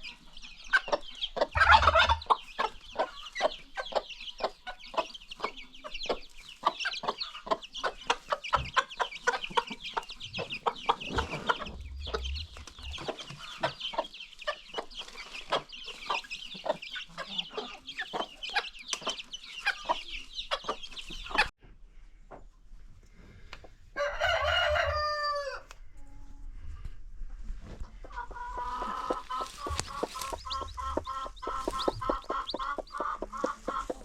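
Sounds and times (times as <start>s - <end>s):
chickens clucking: 0.0s - 21.5s, 26.7s - 34.0s
constant high chirping: 0.0s - 21.5s, 28.1s - 34.0s.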